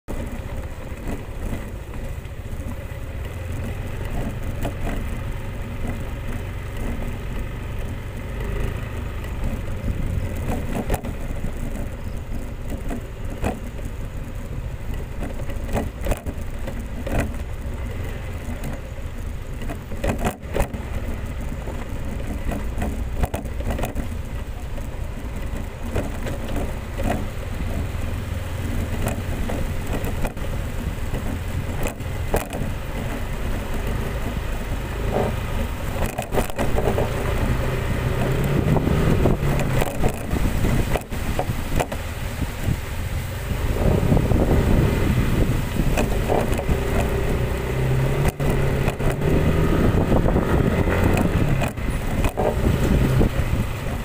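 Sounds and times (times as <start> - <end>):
motorcycle engine running: 0.0 - 54.0
knocks and rattles from bumps: 0.1 - 54.0.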